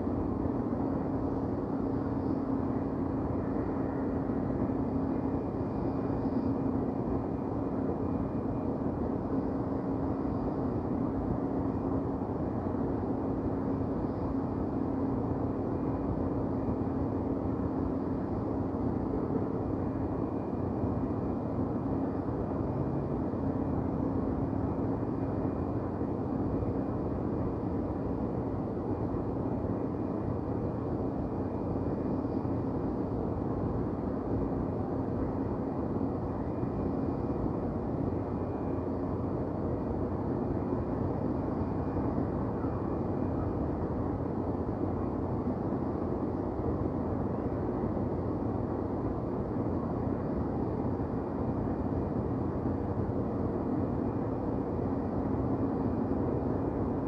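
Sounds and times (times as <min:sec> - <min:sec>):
constant hum: 0:00.0 - 0:57.0
low city rumble: 0:00.0 - 0:57.0.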